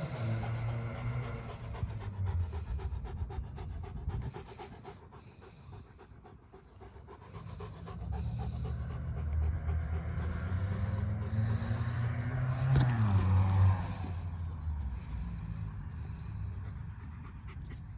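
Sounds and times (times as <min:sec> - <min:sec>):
dog panting rapidly: 0:00.0 - 0:17.9.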